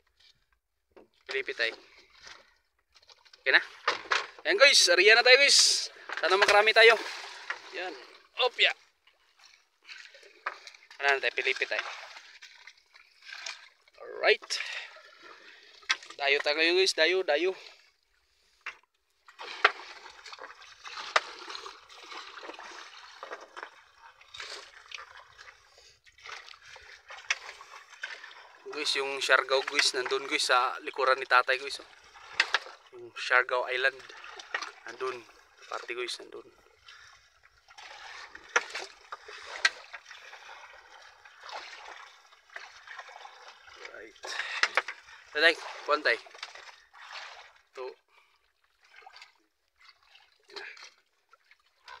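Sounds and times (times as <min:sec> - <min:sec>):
water splashing and trickling: 0:00.0 - 0:52.0.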